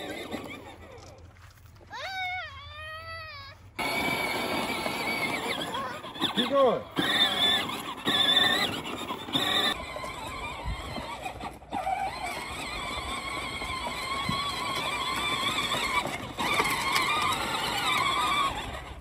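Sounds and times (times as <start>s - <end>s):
electric toy tractor whining: 0.0s - 2.4s, 3.8s - 19.0s.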